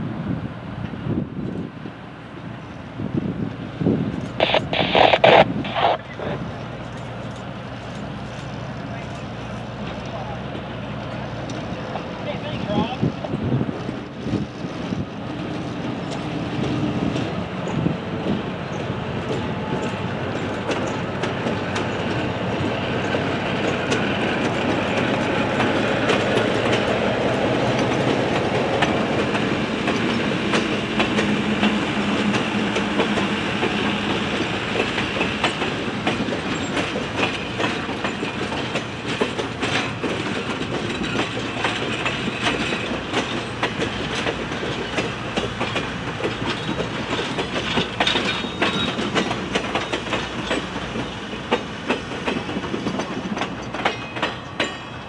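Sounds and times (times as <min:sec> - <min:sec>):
diesel locomotive engine passing: 0:00.0 - 0:55.0
train wheels clicking over rail joints: 0:06.5 - 0:55.0.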